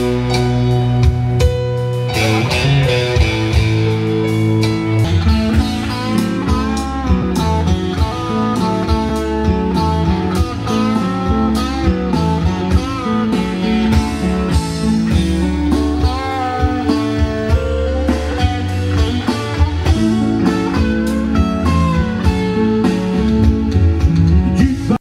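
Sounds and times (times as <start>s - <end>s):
lead electric guitar bending notes: 0.0s - 25.0s
live band playing: 0.0s - 25.0s.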